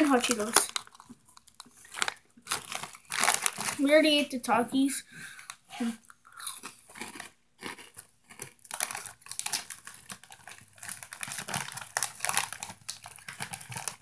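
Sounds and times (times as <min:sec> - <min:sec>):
crunchy snack chewing: 0:00.1 - 0:03.8, 0:06.1 - 0:14.0.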